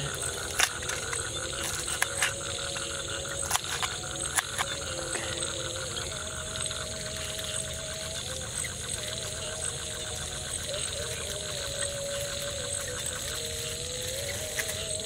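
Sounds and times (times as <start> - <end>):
frogs and insects calling: 0.0 - 15.0.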